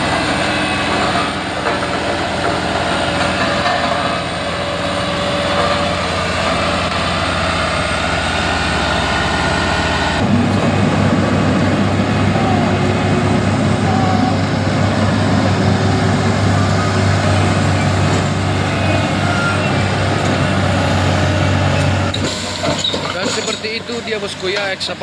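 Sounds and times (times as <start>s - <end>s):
heavy vehicle engines running: 0.0s - 25.0s.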